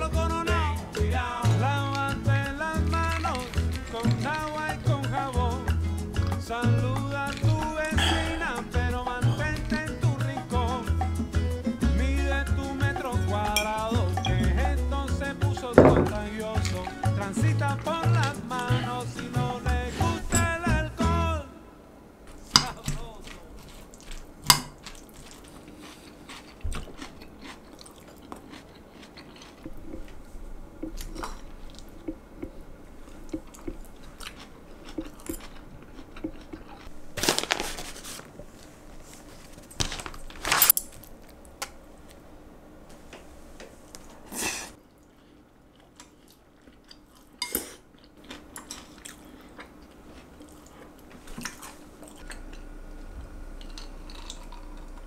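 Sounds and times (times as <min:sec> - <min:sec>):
crunchy salad chewing: 0:00.0 - 0:21.1, 0:22.3 - 0:42.2, 0:44.9 - 0:55.0.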